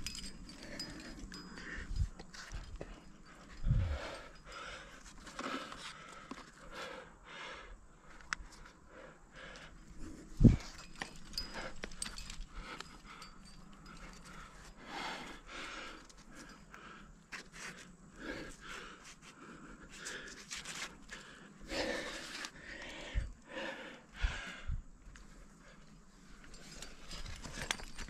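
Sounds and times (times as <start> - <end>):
person breathing hard: 0.1 - 25.9.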